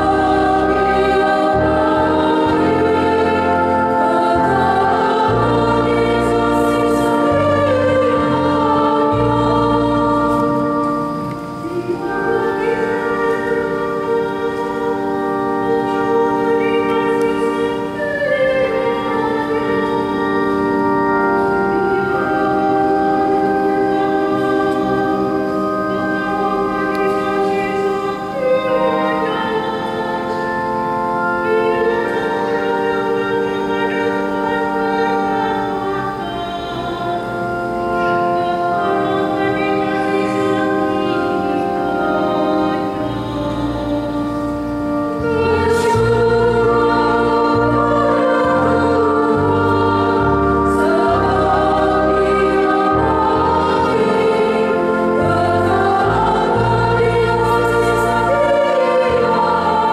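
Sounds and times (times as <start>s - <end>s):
choir singing: 0.0s - 59.9s
organ sustained chord: 0.0s - 59.9s.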